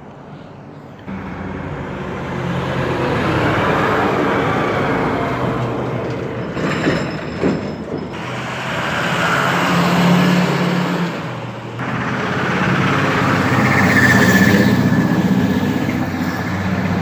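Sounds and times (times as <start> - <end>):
dump truck driving past: 1.0 - 17.0.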